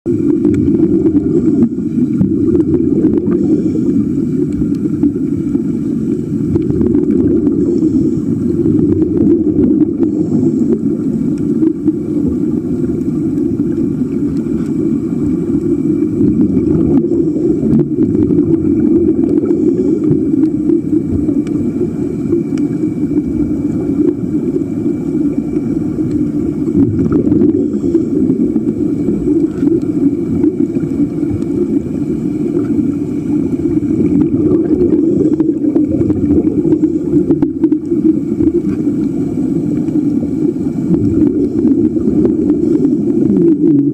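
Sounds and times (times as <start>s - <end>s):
muffled underwater rumble: 0.1s - 43.9s.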